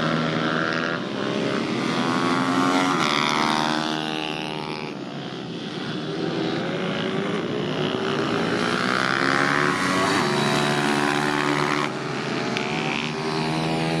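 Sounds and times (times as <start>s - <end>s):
small motorcycle engine buzzing: 0.0s - 14.0s.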